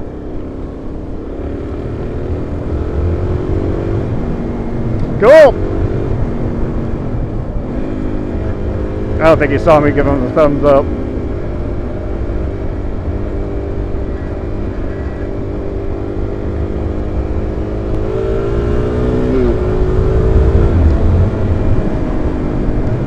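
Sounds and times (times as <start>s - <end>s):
low wind rumble: 0.0s - 23.0s
motorcycle engine running: 0.0s - 23.0s.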